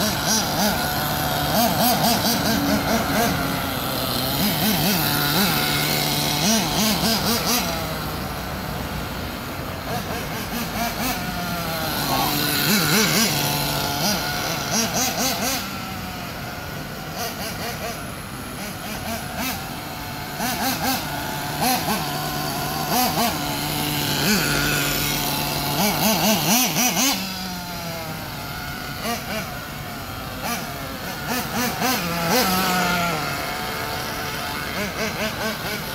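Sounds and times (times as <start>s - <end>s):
engine throttle blips: 0.0s - 35.9s
small nitro engine idling: 0.0s - 35.9s.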